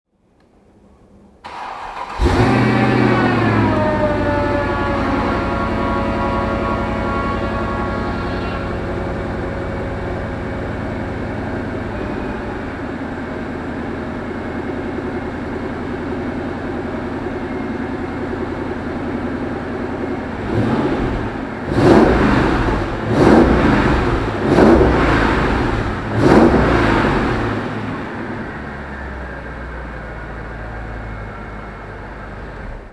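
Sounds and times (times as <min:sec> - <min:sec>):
car engine idling and revving: 0:01.4 - 0:32.9.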